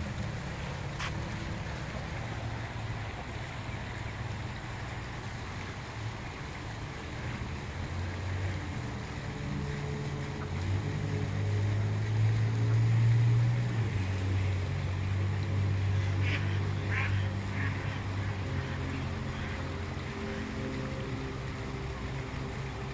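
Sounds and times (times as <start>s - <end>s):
light hiss of wind or water: 0.0s - 22.9s
low mechanical hum: 0.0s - 22.9s.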